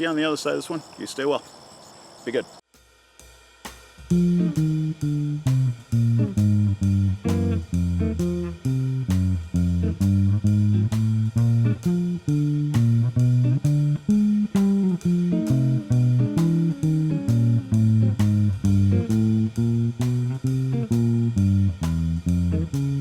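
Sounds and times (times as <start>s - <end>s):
walking-bass blues on guitar: 4.1s - 23.0s.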